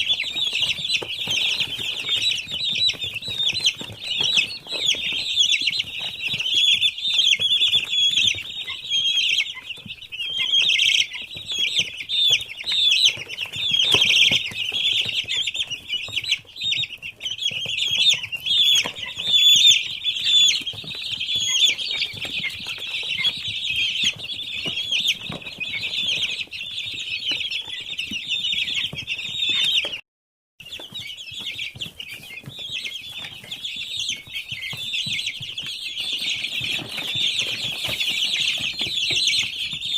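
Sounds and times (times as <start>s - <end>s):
chicks peeping: 0.0s - 30.0s, 30.6s - 39.9s.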